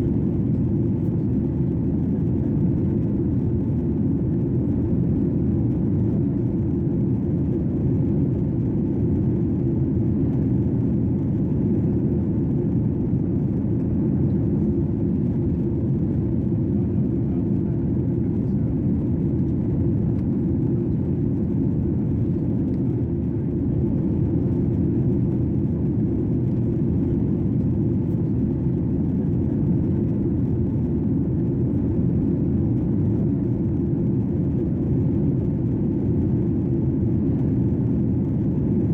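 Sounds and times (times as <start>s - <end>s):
airplane cabin noise: 0.0s - 38.9s.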